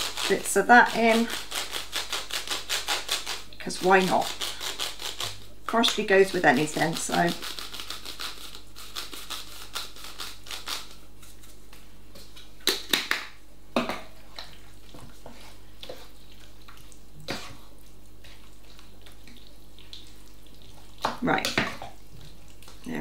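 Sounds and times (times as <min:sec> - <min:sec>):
utensil stirring thick filling: 0:00.0 - 0:10.6, 0:14.1 - 0:23.0.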